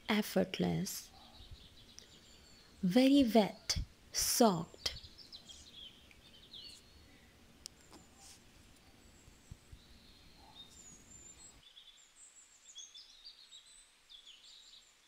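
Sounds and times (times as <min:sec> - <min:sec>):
background hiss: 0:00.0 - 0:15.0
faint birds chirping: 0:00.0 - 0:15.0.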